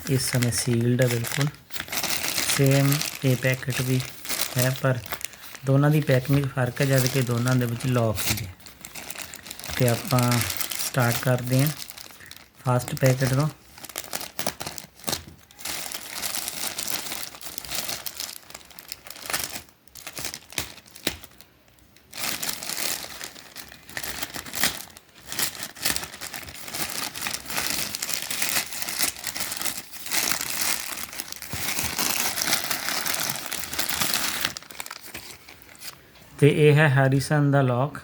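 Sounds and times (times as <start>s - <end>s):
plastic packaging crinkling: 0.0s - 36.1s.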